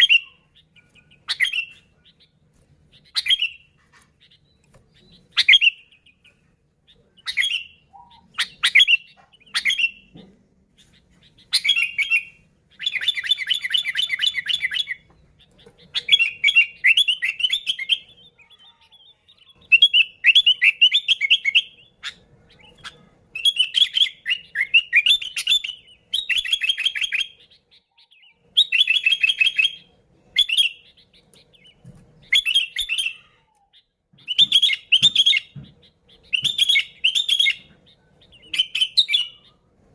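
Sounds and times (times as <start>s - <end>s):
bulbul singing chirping phrases: 0.0s - 10.1s, 10.7s - 39.9s.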